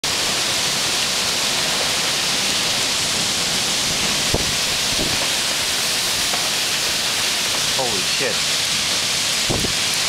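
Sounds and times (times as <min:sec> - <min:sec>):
torrential rain and wind: 0:00.0 - 0:10.0.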